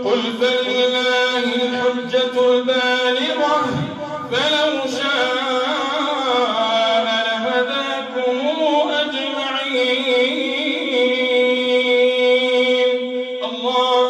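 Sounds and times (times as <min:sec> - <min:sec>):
man chanting through microphone: 0:00.0 - 0:14.0.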